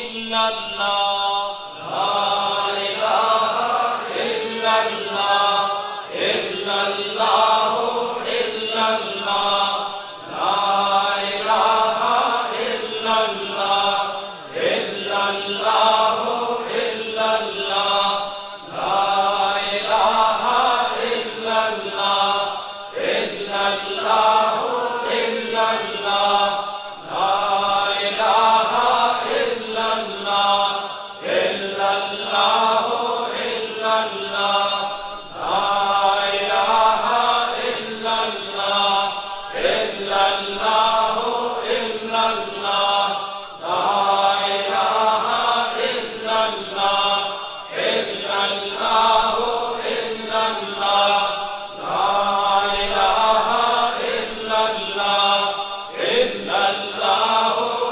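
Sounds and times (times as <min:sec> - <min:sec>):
men chanting together: 0:00.0 - 0:57.9.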